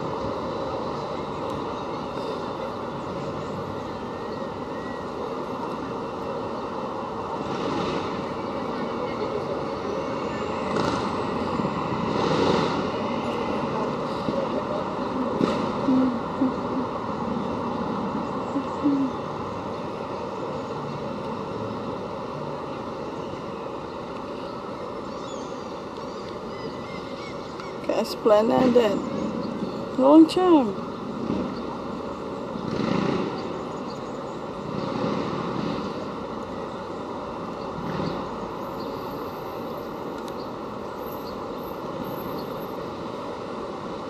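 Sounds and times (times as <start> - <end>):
distant people: 0.0 - 43.3
city traffic noise: 0.0 - 44.0.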